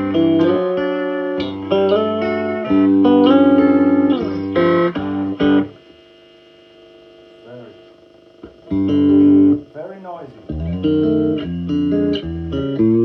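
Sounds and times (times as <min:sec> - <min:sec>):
electric guitar playing: 0:00.0 - 0:06.0, 0:07.0 - 0:13.0
amplifier hum and hiss: 0:00.0 - 0:13.0.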